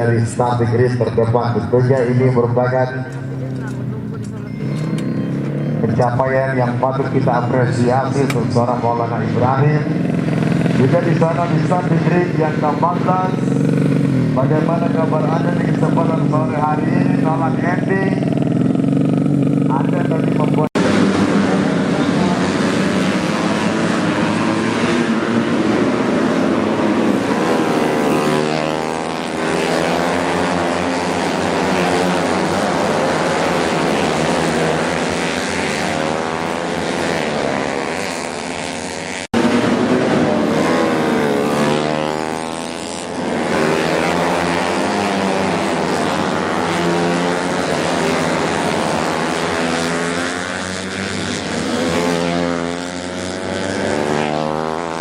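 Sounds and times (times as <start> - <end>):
racing motorcycles revving: 0.0 - 55.0.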